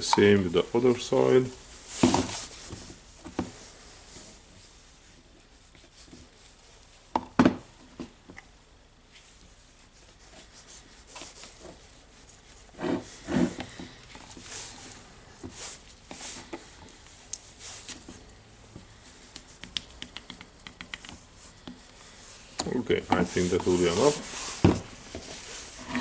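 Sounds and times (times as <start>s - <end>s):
rubbing and handling noises: 0.0s - 7.1s, 9.0s - 26.0s.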